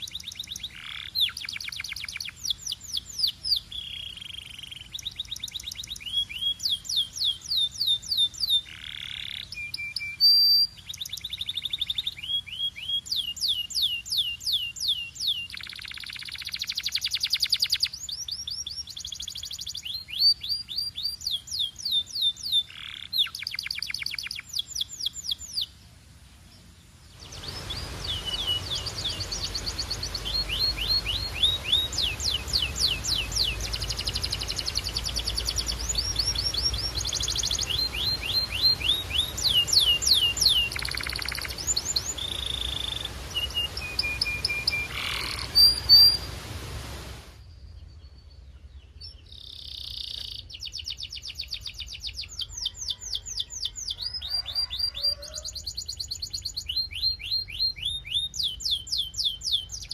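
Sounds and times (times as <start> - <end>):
canary singing trills: 0.0 - 25.8, 27.1 - 46.4, 48.0 - 59.9.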